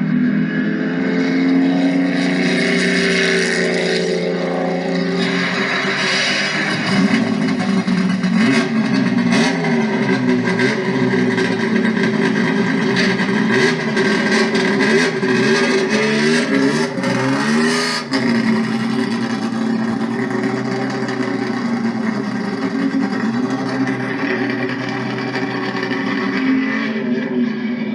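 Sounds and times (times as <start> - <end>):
race car engine revving and idling: 0.0 - 27.9.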